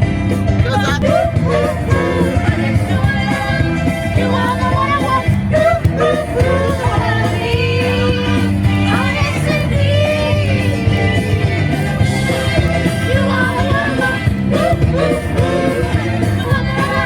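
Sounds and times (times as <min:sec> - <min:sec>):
pop song with sung vocals: 0:00.0 - 0:17.0.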